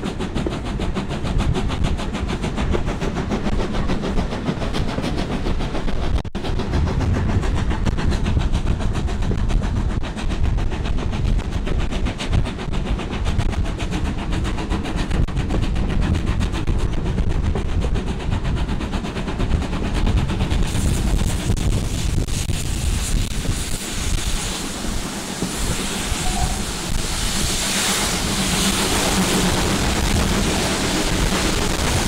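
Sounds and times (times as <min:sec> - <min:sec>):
steam train wheels on rail: 0:00.0 - 0:32.0
wind on microphone: 0:00.0 - 0:32.0.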